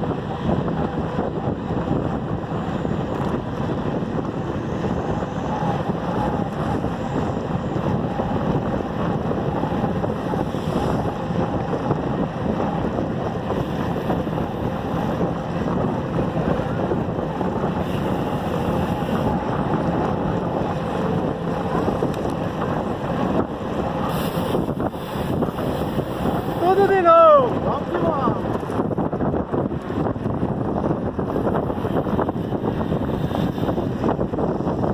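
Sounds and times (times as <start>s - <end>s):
wind rushing over microphone: 0.0s - 34.9s.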